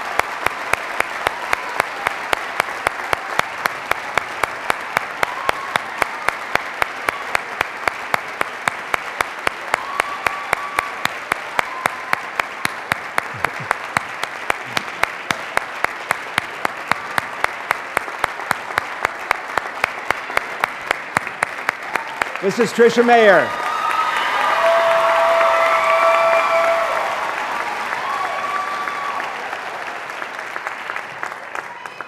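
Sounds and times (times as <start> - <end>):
audience applauding: 0.0 - 32.0
rhythmic sharp claps: 0.0 - 32.0.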